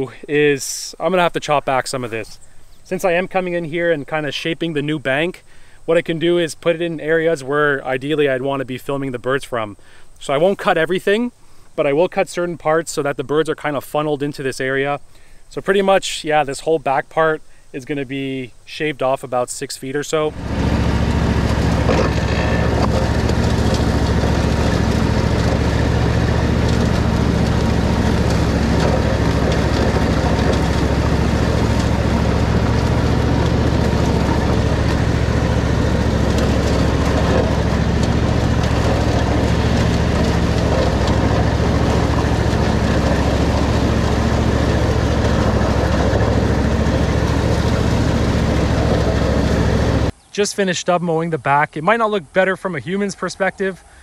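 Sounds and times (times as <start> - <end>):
riding lawn mower engine: 0.0 - 15.9, 20.0 - 50.9.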